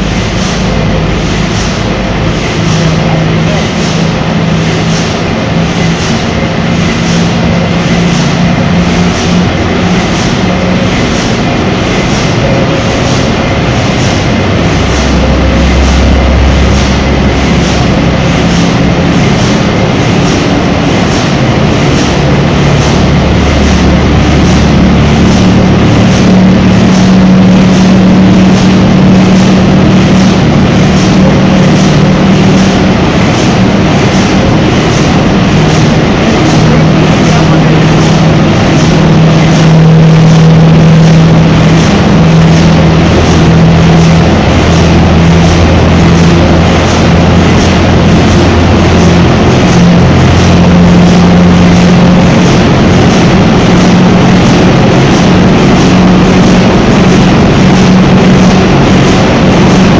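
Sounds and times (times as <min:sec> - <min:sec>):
deep low hum: 0:00.0 - 0:59.9
diesel engine clattering: 0:00.0 - 0:59.9.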